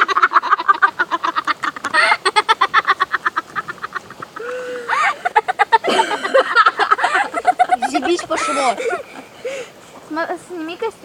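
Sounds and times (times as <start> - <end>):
person laughing: 0.0 - 9.6.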